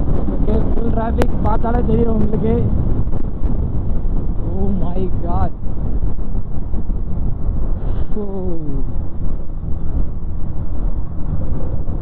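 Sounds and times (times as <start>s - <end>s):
motorcycle engine at high speed: 0.0s - 12.0s
wind buffeting helmet microphone: 0.0s - 12.0s.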